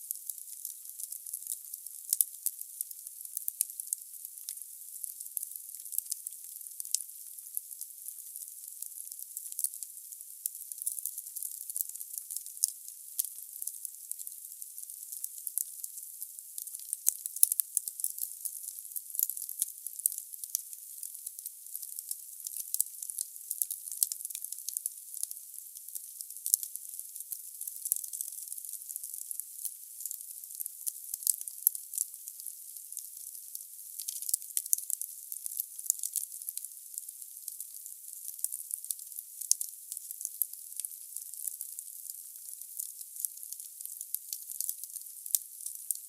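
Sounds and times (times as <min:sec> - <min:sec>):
logs crackling in a fireplace: 0:00.1 - 0:43.5, 0:44.1 - 0:46.0.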